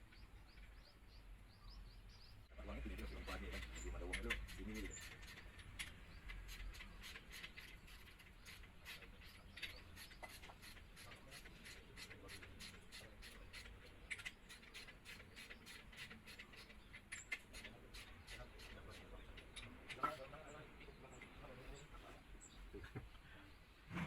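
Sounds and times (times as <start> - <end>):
faint clicking and scratching: 2.6 - 24.0.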